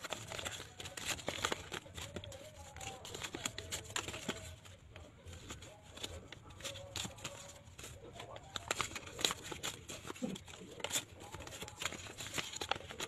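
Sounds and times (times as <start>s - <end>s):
paper envelopes and banknotes rustling: 0.0s - 13.0s.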